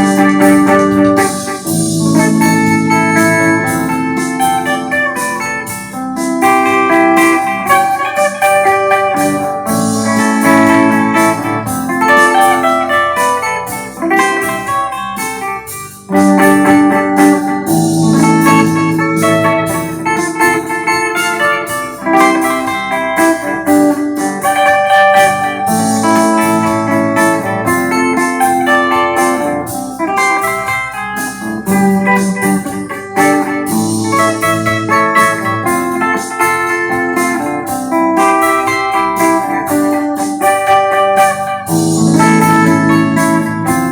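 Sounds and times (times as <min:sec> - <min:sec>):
clean electric guitar: 0:00.0 - 0:43.9.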